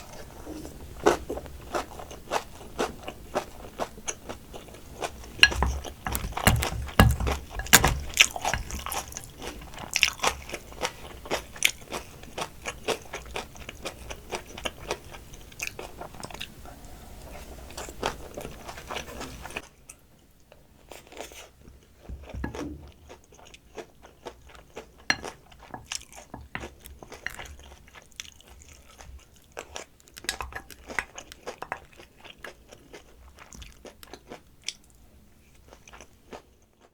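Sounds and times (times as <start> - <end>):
crunching and chewing: 0.0 - 16.6, 20.8 - 36.9.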